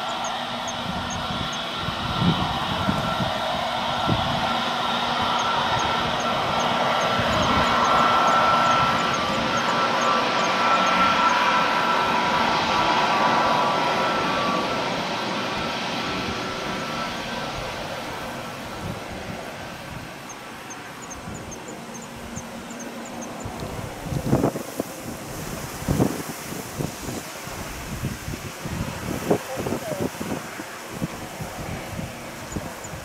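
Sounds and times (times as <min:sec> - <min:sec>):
jet engine whine and hiss: 0:00.0 - 0:33.0.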